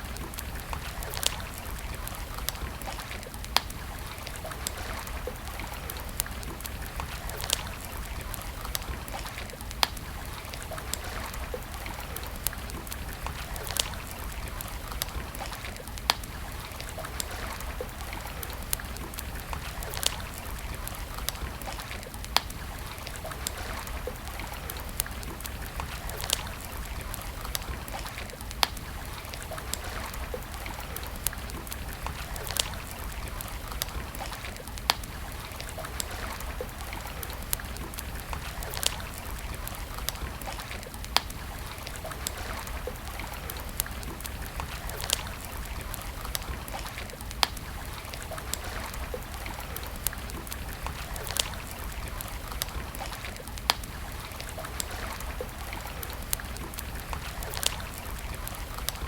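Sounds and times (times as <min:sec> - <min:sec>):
campfire crackling and popping: 0:00.0 - 0:59.0
running water: 0:00.0 - 0:59.0.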